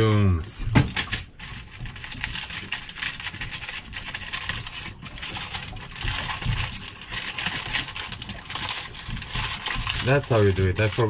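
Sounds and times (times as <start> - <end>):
wrapping crinkling: 0.8 - 11.0.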